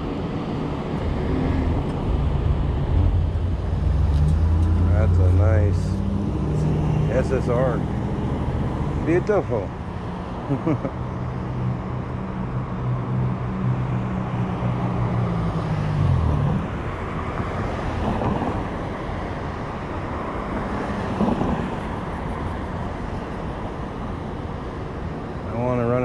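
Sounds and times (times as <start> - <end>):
low engine hum: 0.0 - 25.6
cars driving past: 0.0 - 26.0.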